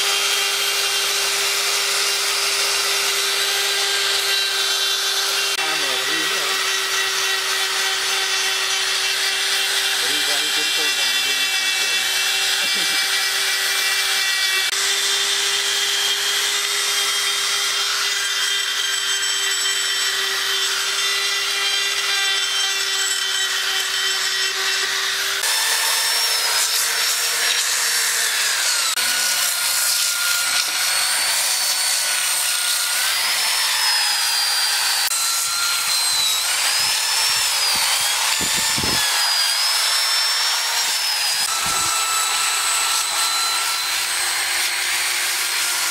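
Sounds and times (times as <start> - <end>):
rotary tool motor whine: 0.0 - 45.9
sanding disc on wood: 0.0 - 45.9.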